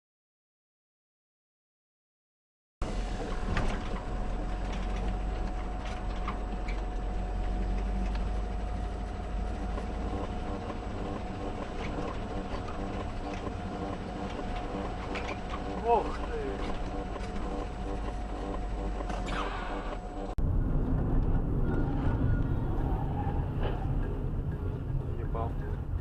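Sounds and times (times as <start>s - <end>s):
road and engine rumble: 2.8s - 26.0s
thin constant whine: 2.8s - 26.0s.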